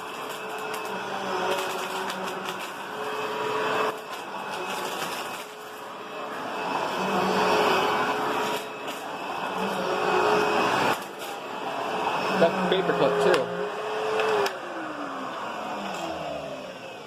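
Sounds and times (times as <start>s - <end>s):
vacuum cleaner motor drone: 0.0s - 17.0s.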